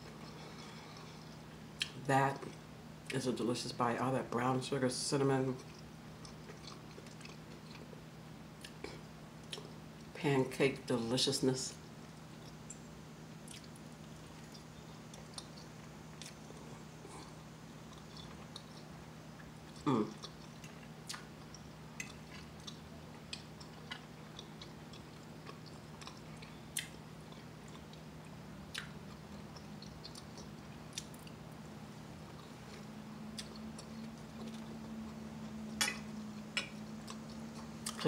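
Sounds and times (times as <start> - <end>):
person chewing food: 0.0 - 2.6, 5.6 - 8.0, 8.6 - 10.1, 12.1 - 38.0
steady low hum: 0.0 - 38.0.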